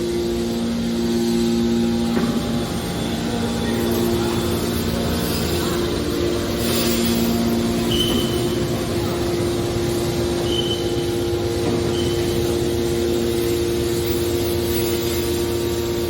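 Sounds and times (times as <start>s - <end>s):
scrap baler machine drone: 0.0s - 16.0s.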